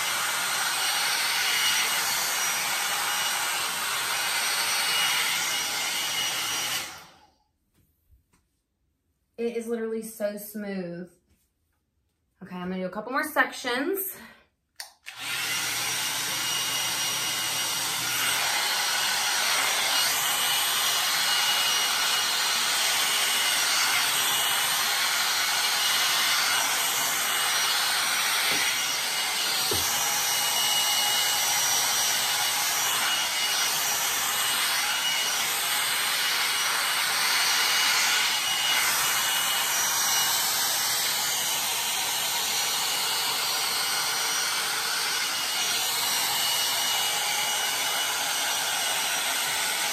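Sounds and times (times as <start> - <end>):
hair dryer brush blowing air: 0.0 - 7.3, 14.8 - 49.9.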